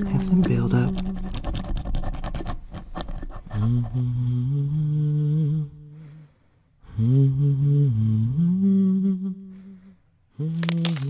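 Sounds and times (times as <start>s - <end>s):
person humming low notes: 0.0s - 1.7s, 3.4s - 11.0s.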